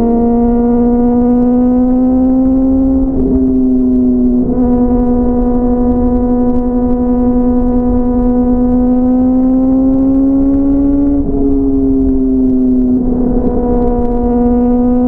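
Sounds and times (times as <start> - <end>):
motorcycle engine high drone: 0.0 - 15.0
wind and road noise: 0.0 - 15.0.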